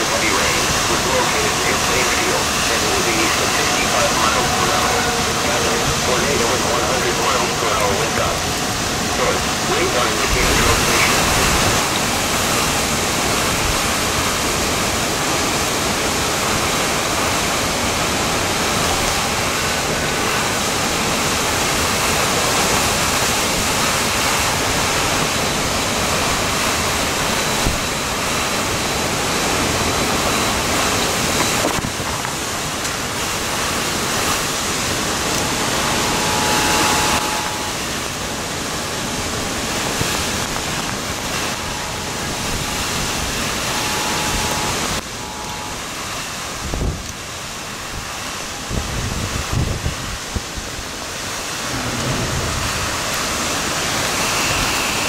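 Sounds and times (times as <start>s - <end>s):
heavy rain: 0.0s - 55.0s
rushing tornado wind: 0.0s - 55.0s.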